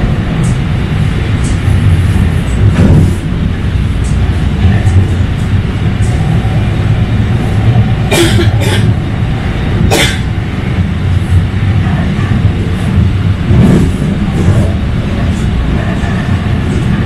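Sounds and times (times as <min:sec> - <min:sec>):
tram rumbling along track: 0:00.0 - 0:17.0.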